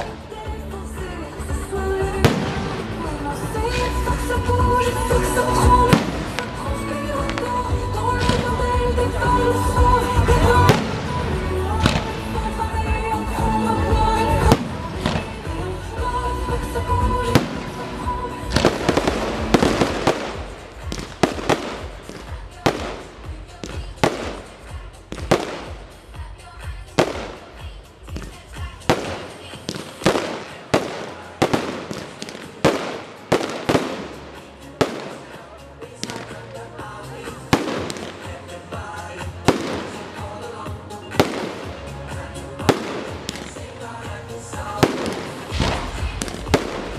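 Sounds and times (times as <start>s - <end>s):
fireworks bursting bangs: 0.0s - 36.6s, 37.2s - 46.9s
music with long held notes: 0.0s - 46.9s.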